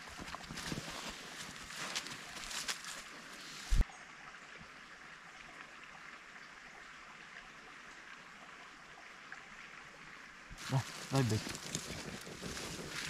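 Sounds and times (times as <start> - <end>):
forest stream rushing: 0.0 - 13.0.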